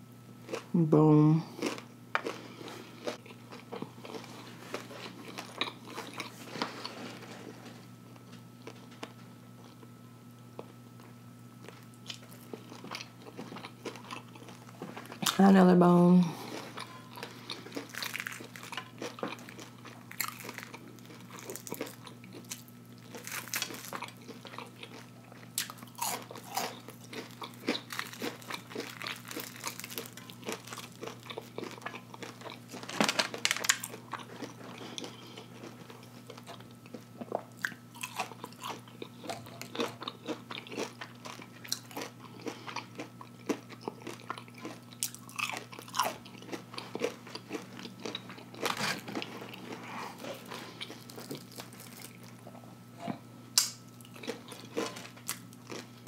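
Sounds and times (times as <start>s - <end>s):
steady low hum: 0.0s - 56.0s
crunching and chewing fried food: 0.1s - 56.0s.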